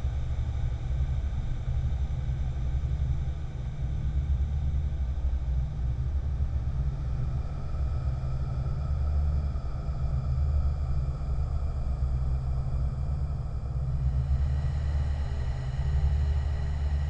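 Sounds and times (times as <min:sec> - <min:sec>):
deep low rumble drone: 0:00.0 - 0:17.0.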